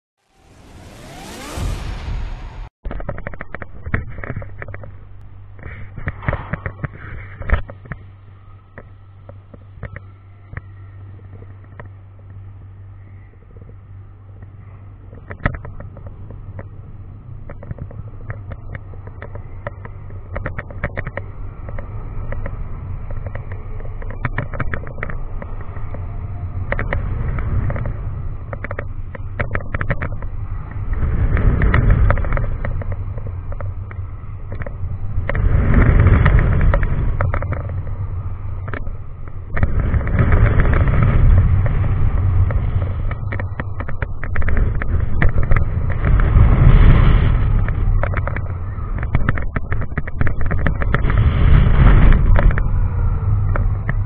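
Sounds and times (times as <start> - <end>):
crackling clicks: 0.2 - 54.0
low rumble: 0.2 - 54.0
wind buffeting microphone: 0.3 - 54.0.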